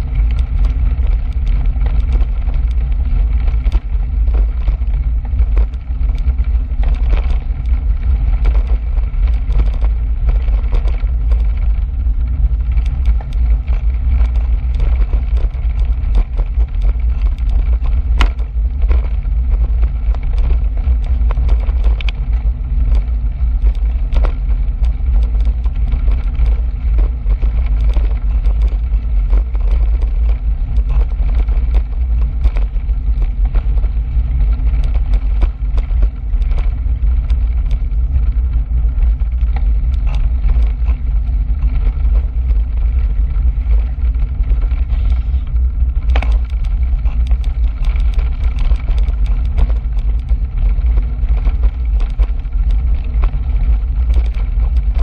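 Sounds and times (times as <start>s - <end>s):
wind rumble at microphone: 0.0s - 55.0s.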